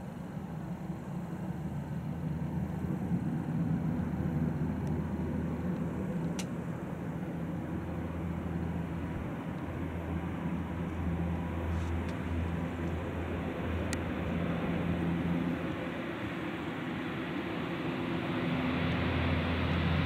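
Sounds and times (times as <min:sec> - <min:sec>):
turboprop engines drone: 0:00.0 - 0:20.0.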